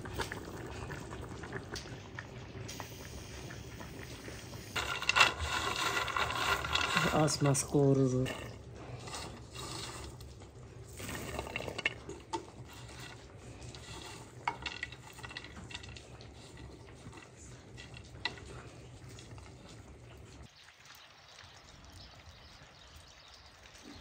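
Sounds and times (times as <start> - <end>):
utensil stirring frying food: 0.0 - 20.5.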